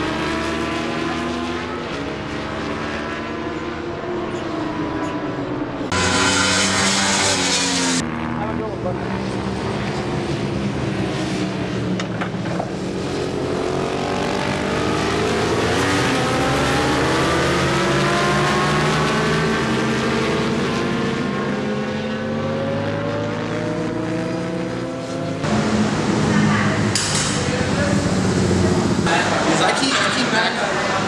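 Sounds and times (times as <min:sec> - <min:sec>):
racing engine accelerating: 0:00.0 - 0:11.8, 0:12.8 - 0:31.0.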